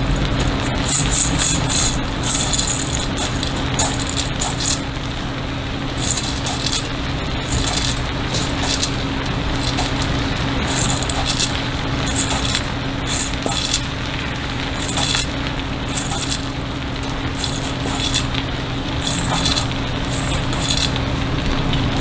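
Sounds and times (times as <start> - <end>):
food sizzling on grill: 0.0 - 22.0
steady low hum: 0.0 - 22.0
small ticks: 0.4 - 5.0, 5.9 - 21.1.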